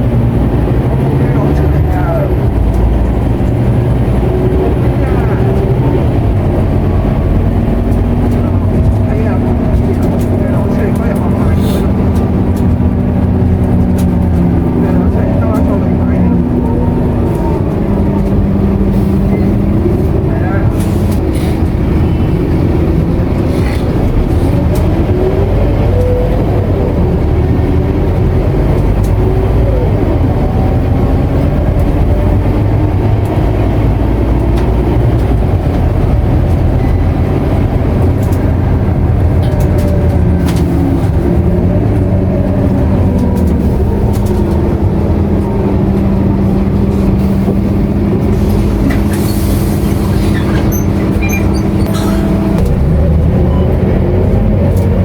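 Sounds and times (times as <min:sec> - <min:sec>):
bus diesel engine inside cabin: 0:00.0 - 0:55.0.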